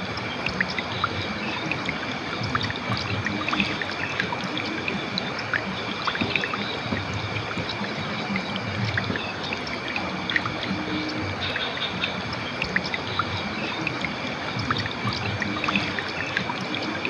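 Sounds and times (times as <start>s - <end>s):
river water flowing over rocks: 0.0s - 17.0s.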